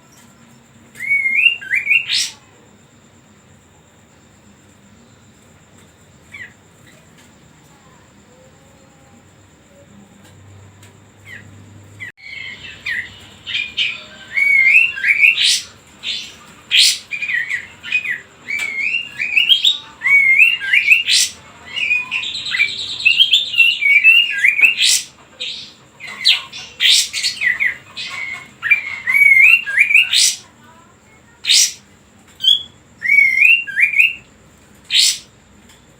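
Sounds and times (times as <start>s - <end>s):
songbird singing whistles and chirps: 0.0s - 2.7s, 5.0s - 35.4s.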